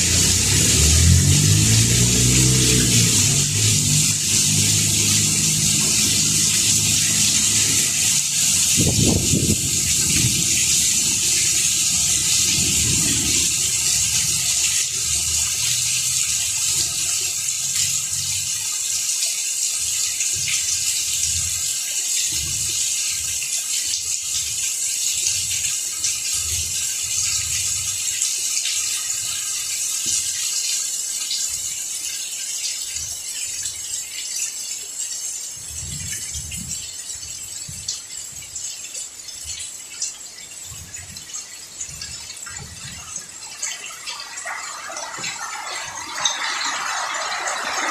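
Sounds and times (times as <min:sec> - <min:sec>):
rain on leaves: 0:00.0 - 0:47.9.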